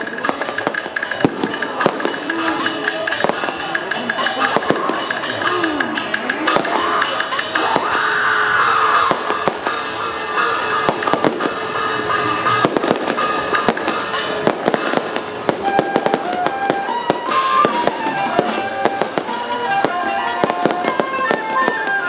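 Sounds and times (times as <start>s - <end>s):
fireworks crackling and banging: 0.0s - 22.0s
melody of stepped notes: 0.0s - 22.0s
music: 0.0s - 22.0s.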